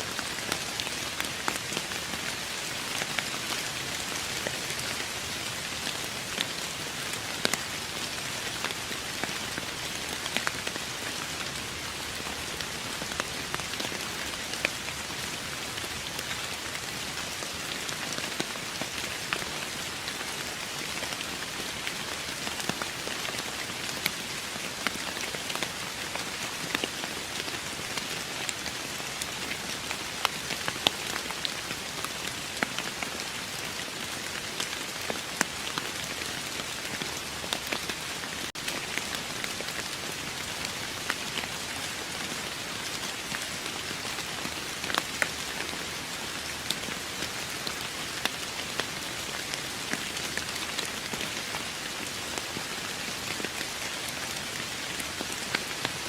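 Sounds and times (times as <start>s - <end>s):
raindrops pattering: 0.0s - 56.0s.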